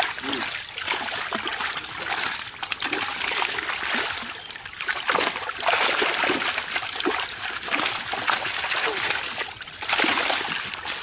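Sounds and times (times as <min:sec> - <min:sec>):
fish thrashing and splashing: 0:00.0 - 0:11.0.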